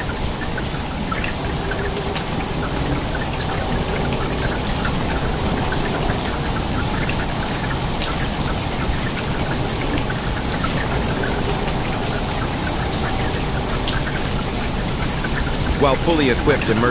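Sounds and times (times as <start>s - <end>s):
heavy rain pattering: 0.0s - 16.9s.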